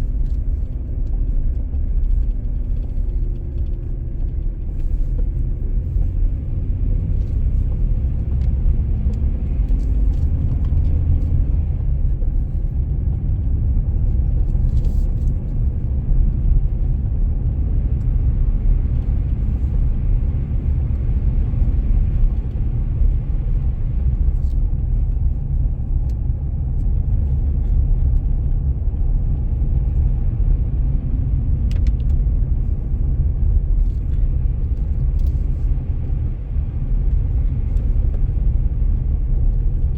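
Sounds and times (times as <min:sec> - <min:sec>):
faint engine hum: 0:00.0 - 0:39.9
road and engine rumble: 0:00.0 - 0:39.9.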